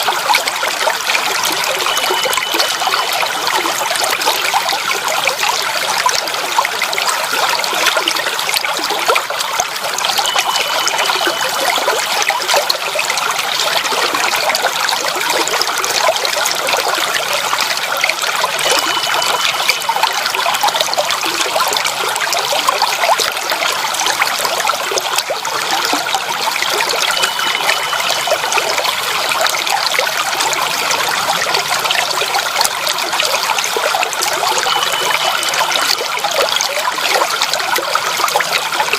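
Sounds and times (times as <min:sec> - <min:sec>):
water trickling and babbling: 0:00.0 - 0:38.9.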